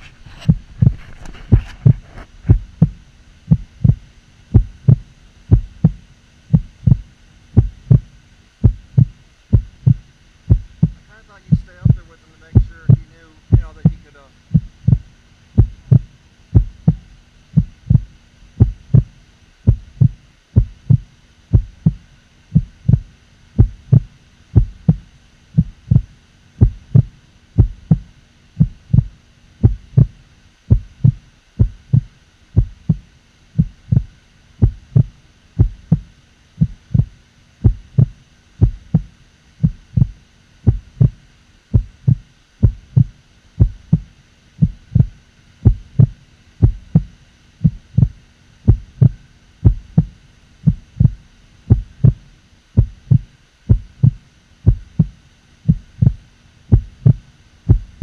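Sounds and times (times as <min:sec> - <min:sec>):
faint constant hum: 0:00.0 - 0:58.0
rhythmic low thumps: 0:00.2 - 0:58.0.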